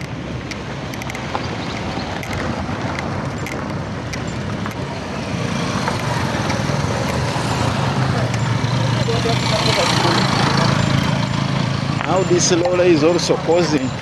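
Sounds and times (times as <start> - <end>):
light clicking rattles: 0.0 - 5.0, 5.6 - 14.0
vehicle engine and road rumble: 0.0 - 14.0.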